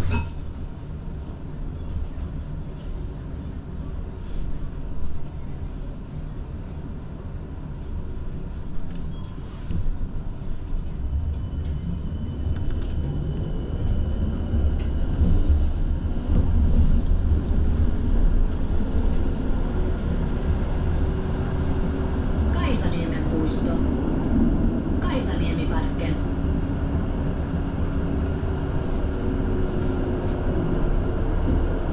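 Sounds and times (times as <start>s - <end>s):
tram wheels rumbling: 0.0s - 31.9s.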